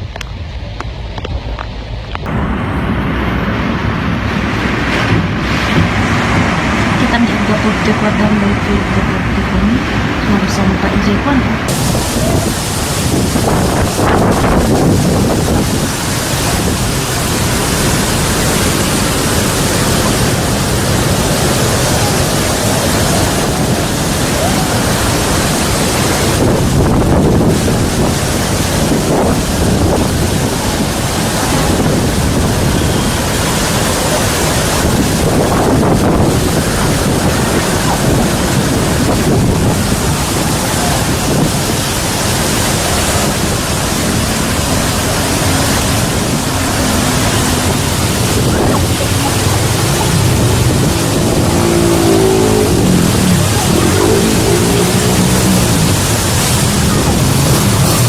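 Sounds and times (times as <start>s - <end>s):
strong wind blowing: 0.0s - 58.0s
wind buffeting microphone: 0.0s - 58.0s.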